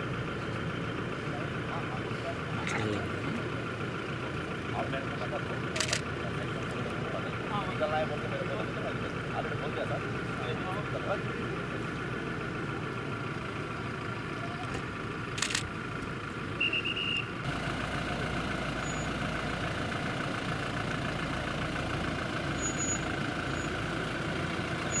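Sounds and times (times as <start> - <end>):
engine idling hum: 0.0 - 25.0.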